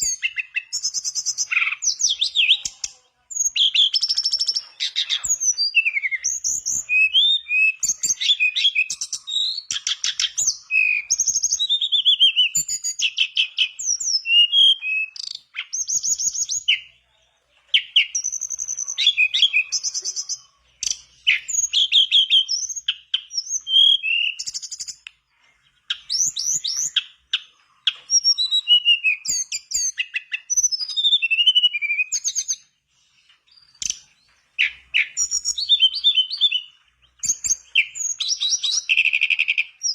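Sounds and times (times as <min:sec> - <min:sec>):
bird whistling and trilling: 0:00.0 - 0:02.8, 0:03.4 - 0:16.9, 0:17.8 - 0:25.1, 0:25.9 - 0:32.7, 0:33.5 - 0:39.9.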